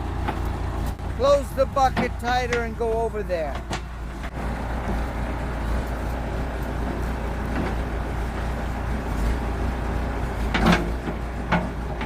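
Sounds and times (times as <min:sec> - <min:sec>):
backhoe engine rumbling: 0:00.0 - 0:12.0.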